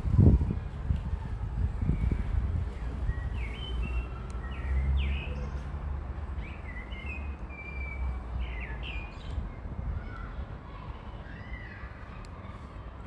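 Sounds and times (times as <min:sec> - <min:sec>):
birds chirping: 0:01.9 - 0:13.0.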